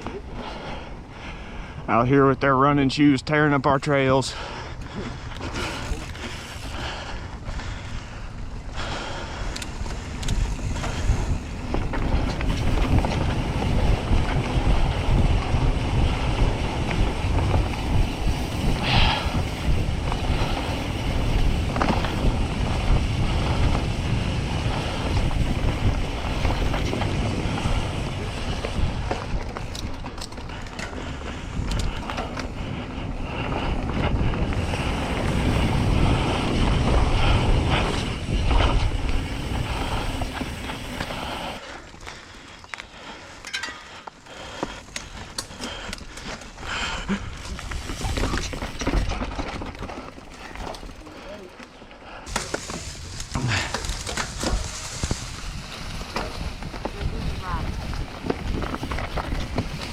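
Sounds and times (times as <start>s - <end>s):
bike clicks and rattles: 0.0s - 1.9s, 2.8s - 59.9s
wind buffeting microphone: 0.0s - 41.6s, 44.3s - 51.3s, 52.1s - 59.9s
bike rolling on dirt trail: 0.0s - 59.9s.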